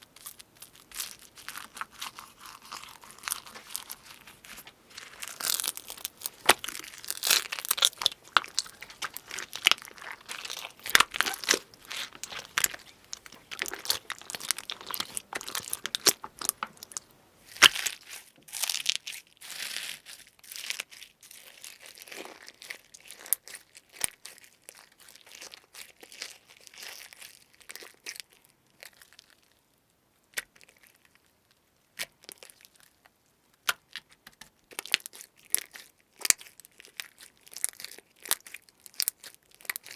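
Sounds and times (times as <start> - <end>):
crunchy slime crackling: 0.0 - 29.6, 30.3 - 39.9.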